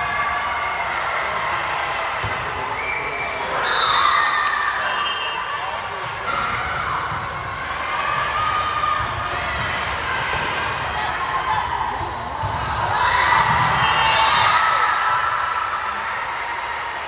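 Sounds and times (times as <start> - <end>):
voices echoing in gym: 0.0 - 17.0.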